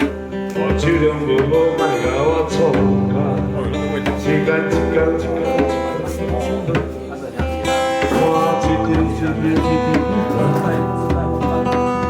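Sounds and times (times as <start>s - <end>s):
bass and beat: 0.0s - 12.0s
strummed guitar: 0.0s - 12.0s.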